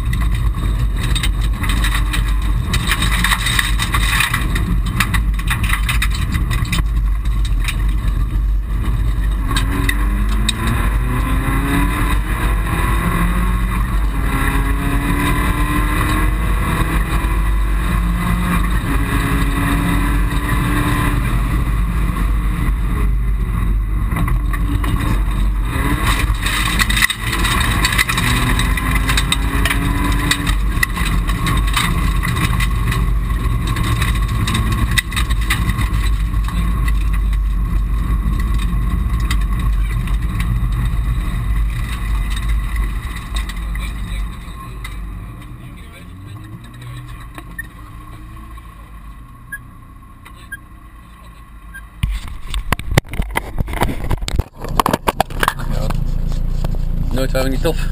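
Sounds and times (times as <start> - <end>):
car engine revving: 0.0 - 57.9
road and tyre noise: 0.0 - 57.9.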